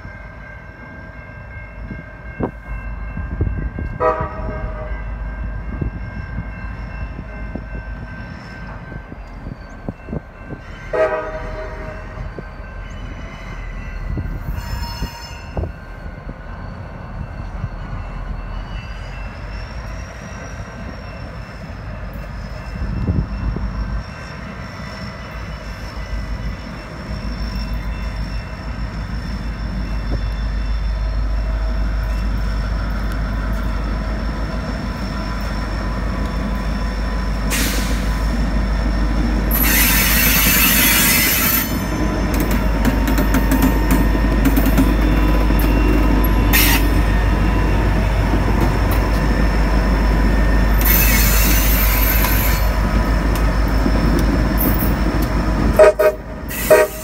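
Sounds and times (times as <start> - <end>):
locomotive engine rumbling: 0.0 - 57.0
wheels squealing on rails: 0.0 - 57.0.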